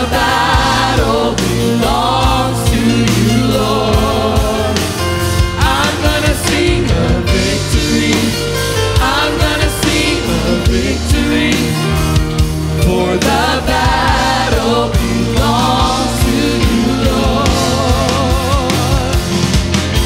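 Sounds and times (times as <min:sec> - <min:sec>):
drum kit: 0:00.0 - 0:20.0
keyboard: 0:00.0 - 0:20.0
singers in harmony: 0:00.0 - 0:20.0.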